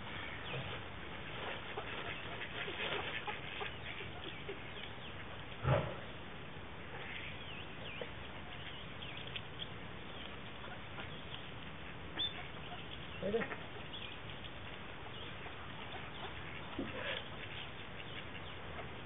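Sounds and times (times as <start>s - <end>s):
ducks pecking and rustling: 0.0s - 19.0s.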